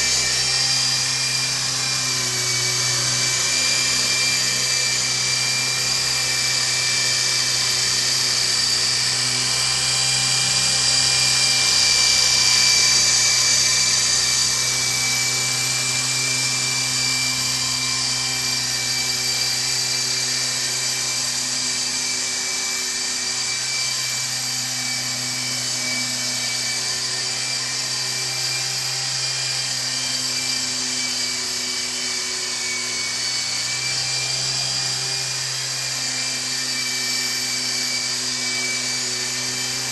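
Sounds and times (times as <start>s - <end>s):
toy helicopter rotor whine: 0.0s - 39.9s.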